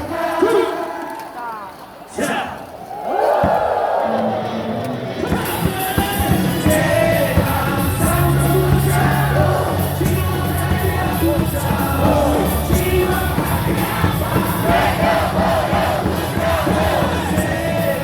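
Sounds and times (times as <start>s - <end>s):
crowd singing and chanting: 0.0s - 18.0s
cheer music over loudspeakers: 3.2s - 18.0s.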